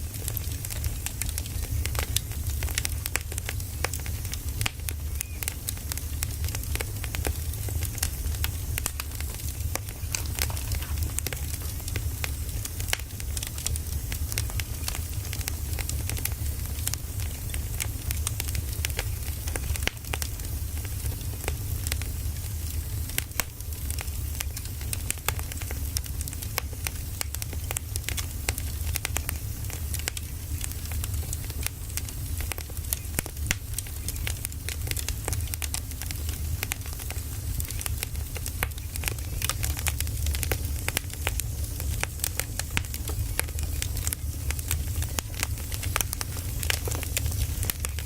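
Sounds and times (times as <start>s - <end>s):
firewood crackling and popping: 0.0s - 48.0s
low fire rumble: 0.0s - 48.0s.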